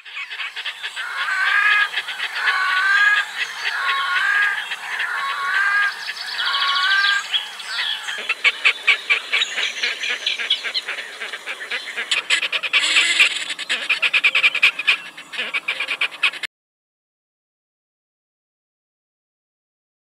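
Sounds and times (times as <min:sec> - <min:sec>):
bird calls: 0:00.0 - 0:16.5
rapid bird chirps: 0:00.0 - 0:16.5.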